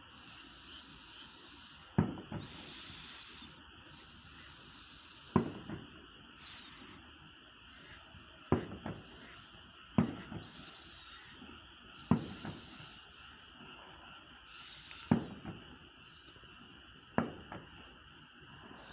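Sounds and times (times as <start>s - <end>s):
steady background hiss: 0.0s - 18.9s
distant fireworks booms: 0.2s - 18.9s.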